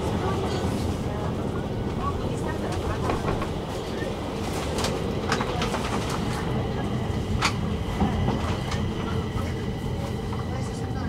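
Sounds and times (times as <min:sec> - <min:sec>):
metro train rumble: 0:00.0 - 0:11.0.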